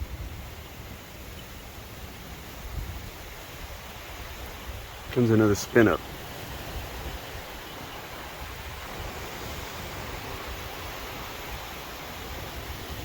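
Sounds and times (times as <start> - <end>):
strong wind gusting: 0.0 - 13.0
wind buffeting microphone: 0.0 - 13.0.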